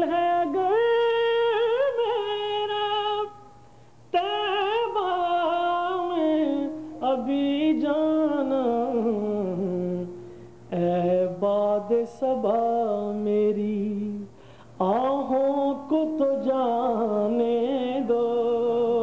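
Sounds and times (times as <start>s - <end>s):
man singing: 0.0s - 3.5s, 4.1s - 19.0s.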